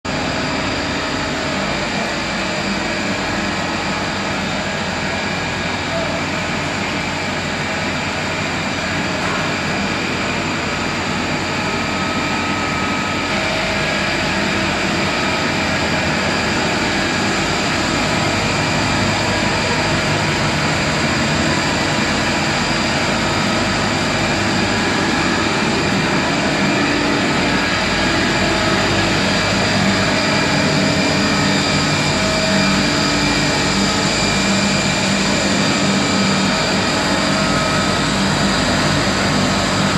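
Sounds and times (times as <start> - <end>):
mill machinery droning: 0.1 - 39.9.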